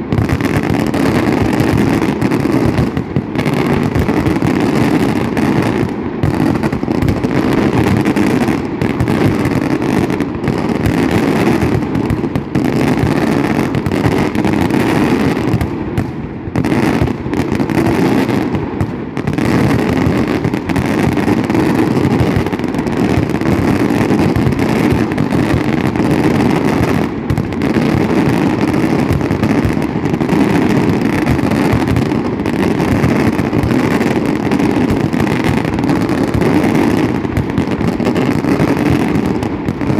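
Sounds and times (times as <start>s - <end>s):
fireworks explosions rumbling: 0.0s - 39.9s.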